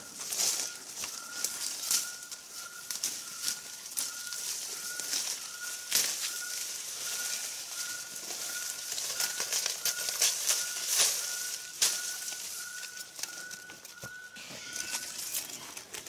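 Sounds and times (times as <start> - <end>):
leaves rustling: 0.0 - 16.0
twigs clicking: 0.0 - 16.0.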